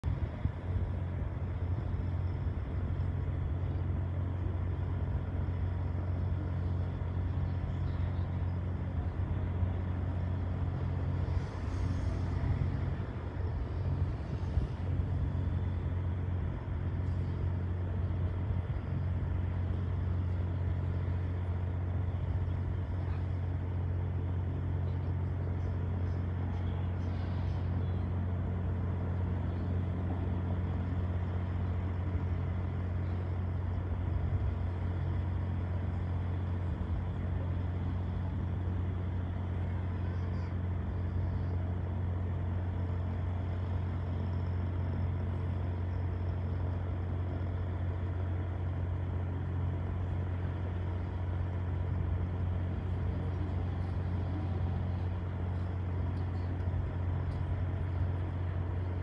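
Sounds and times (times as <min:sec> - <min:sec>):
low mechanical rumble: 0:00.0 - 0:59.0.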